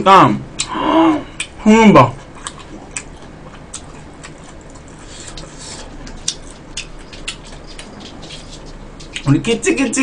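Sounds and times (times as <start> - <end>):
low steady background noise: 0.0 - 10.0
person eating with chopsticks: 0.6 - 9.4.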